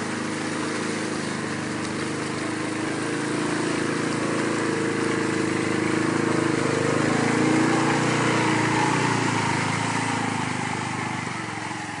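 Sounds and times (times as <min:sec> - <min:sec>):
mud and water splashing: 0:00.0 - 0:12.0
quad engine running under load: 0:00.0 - 0:12.0.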